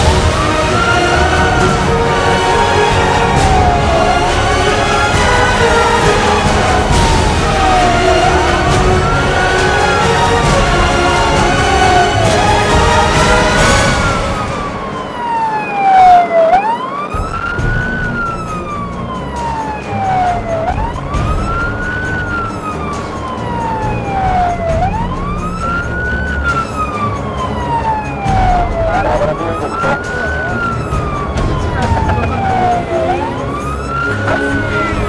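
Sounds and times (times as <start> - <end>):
fire engine siren wailing: 0.0 - 35.0
truck engine and road noise: 0.0 - 35.0.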